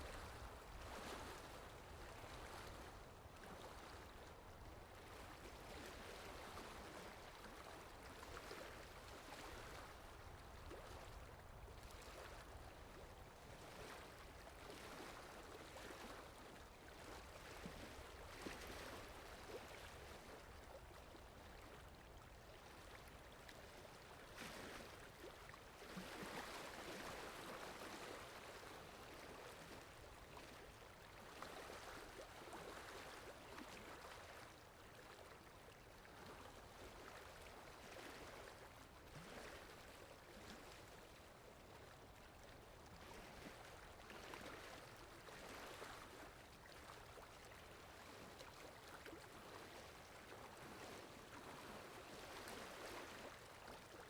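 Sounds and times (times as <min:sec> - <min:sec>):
faint flowing water: 0:00.0 - 0:54.0.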